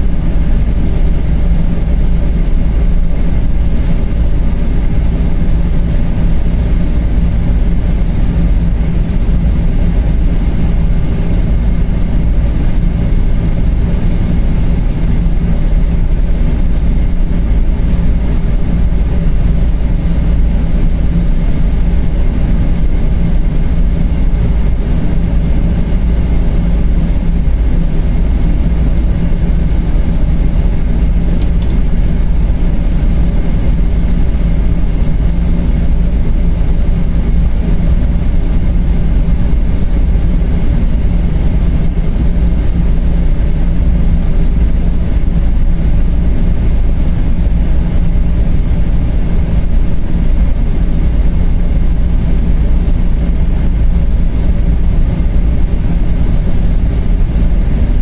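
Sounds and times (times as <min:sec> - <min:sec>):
airplane cabin rumble: 0:00.0 - 0:58.0
steady low hums: 0:00.0 - 0:58.0.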